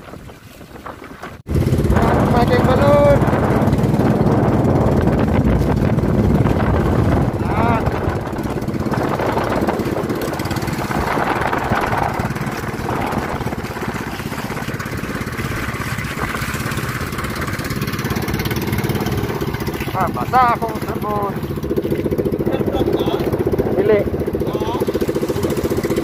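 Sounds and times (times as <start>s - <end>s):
wind and water rushing: 0.0s - 26.0s
boat engine running: 1.2s - 26.0s.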